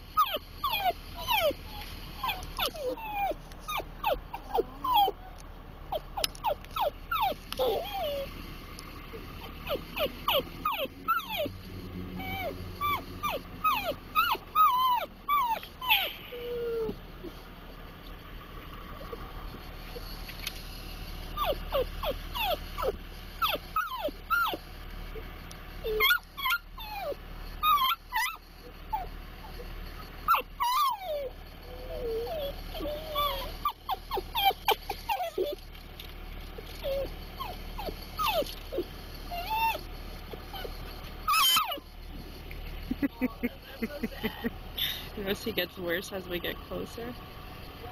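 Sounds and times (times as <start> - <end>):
dog whining and yelping: 0.0 - 8.4, 9.1 - 17.4, 18.9 - 20.3, 21.2 - 35.8, 36.4 - 45.6
low rumble of moving car: 0.0 - 47.9.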